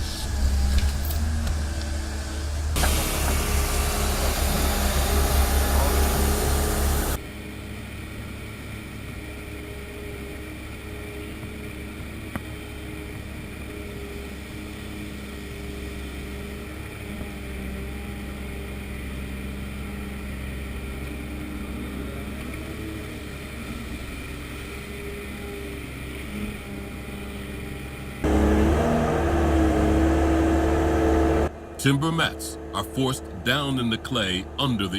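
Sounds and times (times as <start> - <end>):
diesel engine droning: 0.0 - 34.9.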